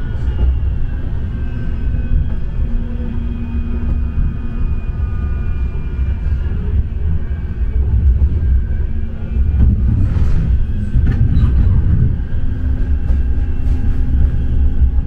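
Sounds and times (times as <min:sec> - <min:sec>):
tram wheels rumbling on rail: 0:00.0 - 0:15.0.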